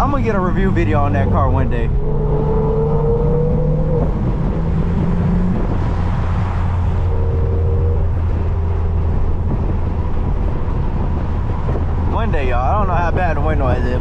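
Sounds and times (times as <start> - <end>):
car engine humming: 0.0 - 14.0
road and air noise: 0.0 - 14.0.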